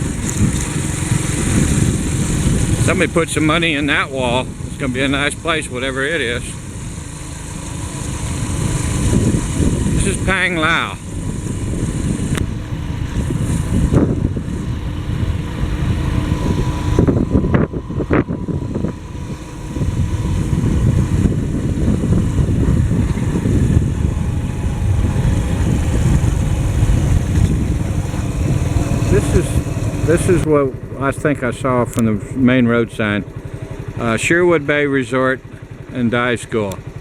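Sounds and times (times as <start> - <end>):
motorcycle engine running: 0.0 - 37.0
wind rumbling on microphone: 0.0 - 37.0.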